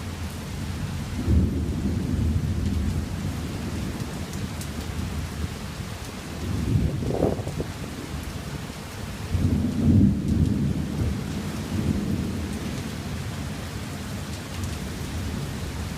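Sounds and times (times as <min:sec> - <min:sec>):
steady rain: 0:00.0 - 0:15.9
thunder rumbling: 0:01.1 - 0:05.6, 0:06.3 - 0:08.2, 0:09.3 - 0:15.9.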